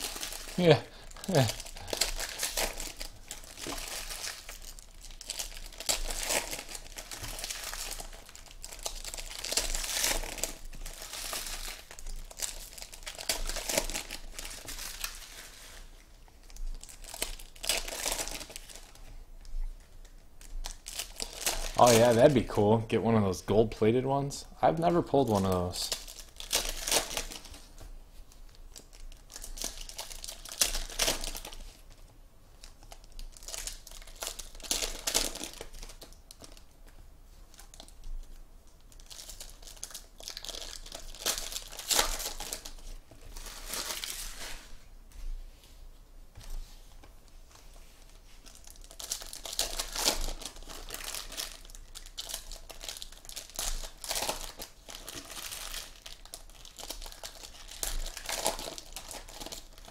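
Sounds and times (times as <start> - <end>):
foil wrappers crinkling and tearing: 0.0 - 19.0, 20.4 - 22.7, 24.7 - 27.8, 28.5 - 32.0, 32.6 - 36.8, 37.5 - 44.7, 48.0 - 59.9.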